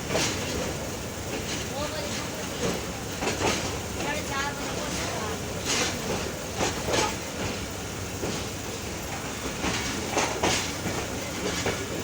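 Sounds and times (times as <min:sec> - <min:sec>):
train rumbling on rails: 0:00.0 - 0:12.0
wheels clacking over rail joints: 0:00.0 - 0:12.0.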